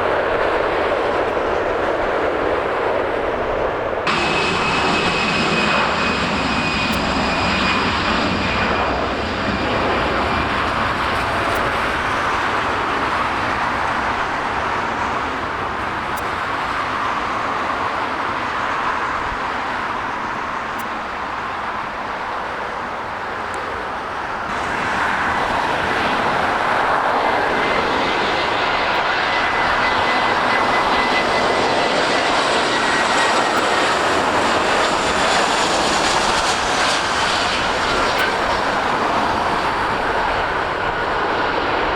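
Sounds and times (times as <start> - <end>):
jet engines passing with whine: 0.0 - 41.9.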